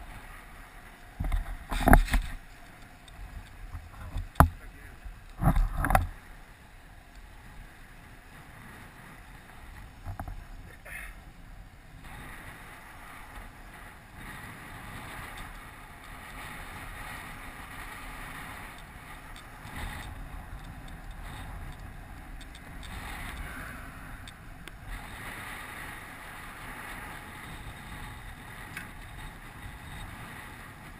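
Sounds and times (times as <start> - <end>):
bike tyres rolling on asphalt: 0.0 - 30.9
wind buffeting a camera: 0.0 - 30.9.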